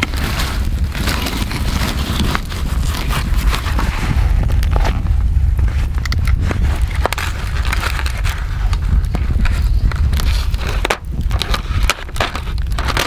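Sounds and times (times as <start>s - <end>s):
steady low rumble: 0.0s - 13.0s
wood fire crackling: 0.0s - 13.0s.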